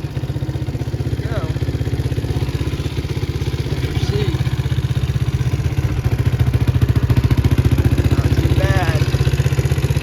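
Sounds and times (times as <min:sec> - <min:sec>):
quad engine idling: 0:00.0 - 0:10.0.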